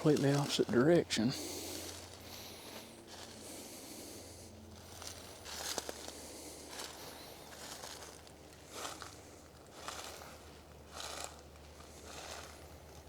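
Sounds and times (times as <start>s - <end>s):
footsteps in leaf litter: 0.0s - 3.8s, 4.8s - 13.0s.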